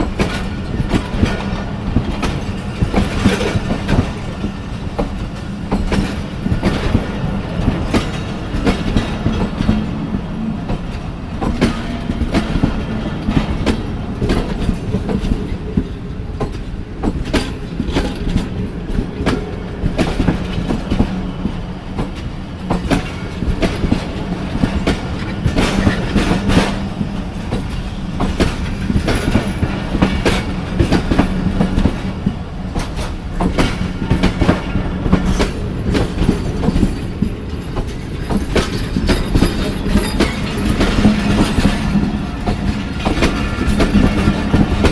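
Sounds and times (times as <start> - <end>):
train rumble and low hum: 0.0 - 44.9
train wheels clacking over rail joints: 0.0 - 44.9.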